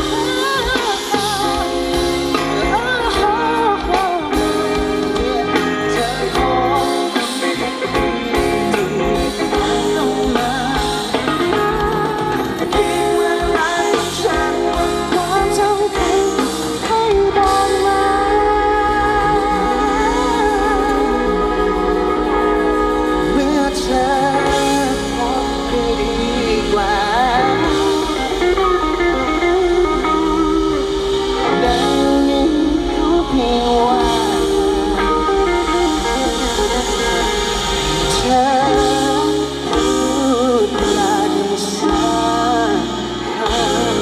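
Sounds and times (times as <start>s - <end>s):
live band playing: 0.0s - 44.0s
person singing: 0.0s - 44.0s.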